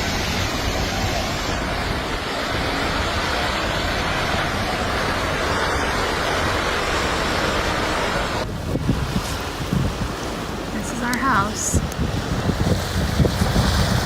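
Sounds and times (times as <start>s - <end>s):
landslide roaring: 0.0s - 14.0s.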